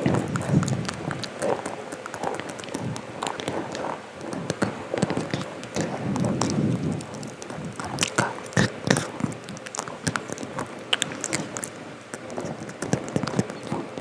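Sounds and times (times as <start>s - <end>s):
sharp clicks and taps: 0.0s - 14.0s
soft rustling: 0.0s - 14.0s.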